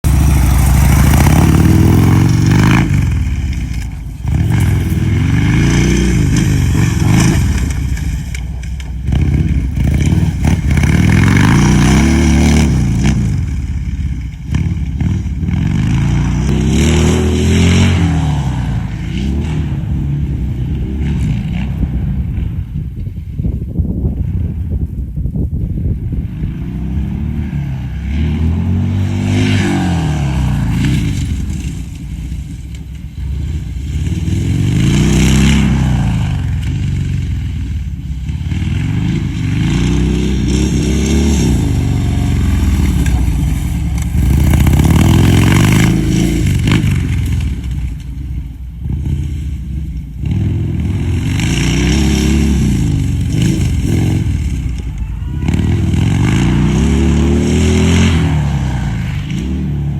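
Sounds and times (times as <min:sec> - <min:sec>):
motorcycle engine revving: 0:00.0 - 0:25.0, 0:25.6 - 0:59.9.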